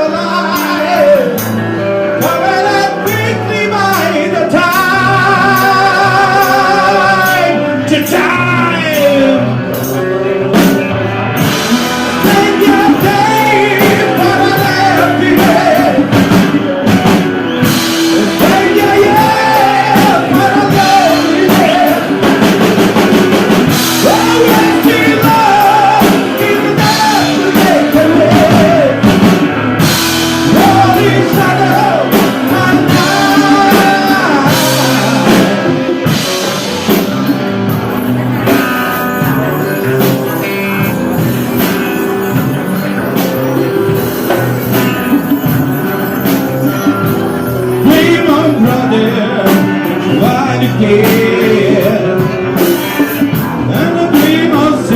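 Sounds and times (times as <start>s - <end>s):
person singing: 0.0s - 10.8s, 11.4s - 54.9s
loud rock music: 0.0s - 54.9s.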